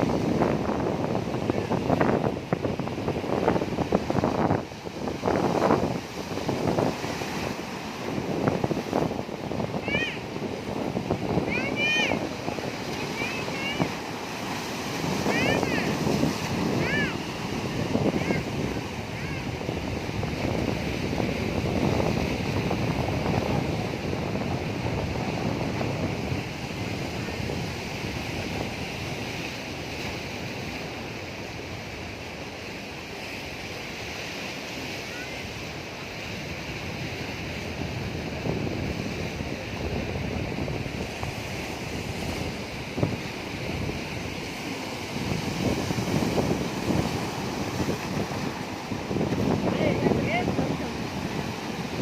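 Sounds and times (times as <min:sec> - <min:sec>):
sea waves washing in: 0:00.0 - 0:52.0
wind buffeting microphone: 0:00.0 - 0:52.0.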